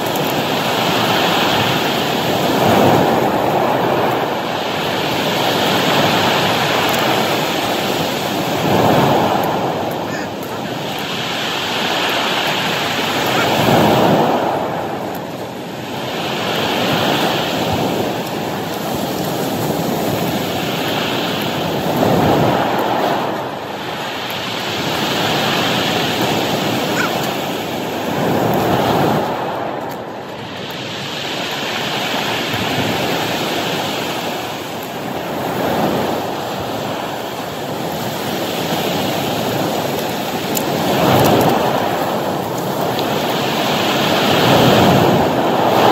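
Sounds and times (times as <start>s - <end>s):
surf hiss: 0.0s - 45.9s
waves crashing on cobble beach: 0.0s - 45.9s.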